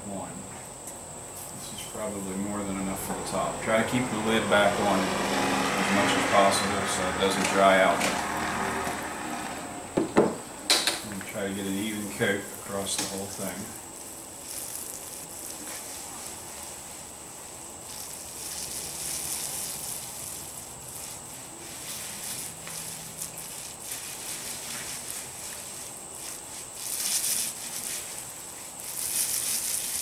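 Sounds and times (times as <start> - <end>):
paint roller wet swish: 3.0 - 9.9, 11.4 - 30.0.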